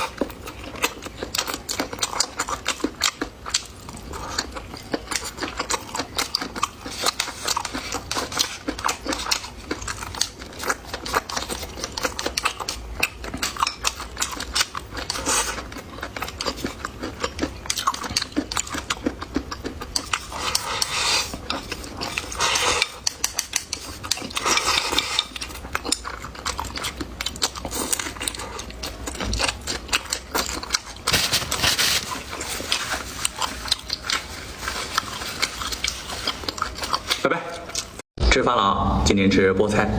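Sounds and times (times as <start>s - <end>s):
person chewing and crunching food: 0.0s - 38.0s.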